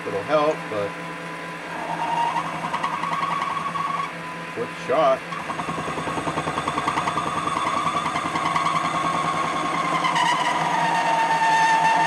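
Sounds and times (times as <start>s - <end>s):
lathe boring bar squealing: 1.6s - 12.0s.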